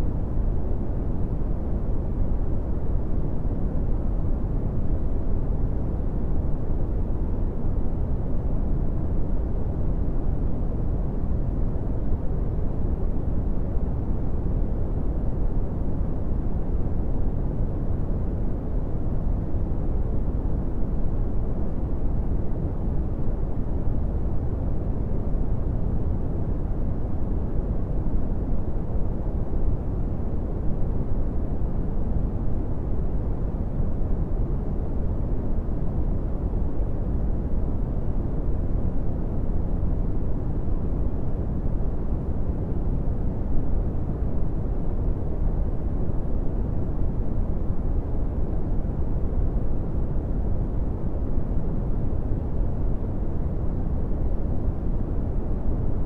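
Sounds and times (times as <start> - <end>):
brown noise rumbling hiss: 0.0 - 56.0.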